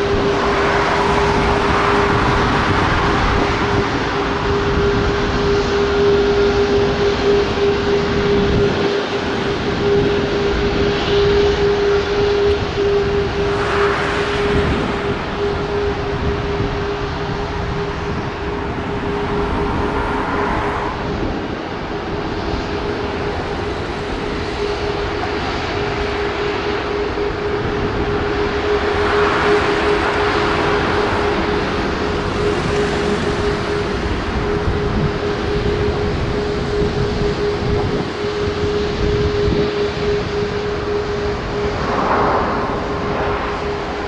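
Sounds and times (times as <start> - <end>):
jet engines running: 0.0 - 44.0.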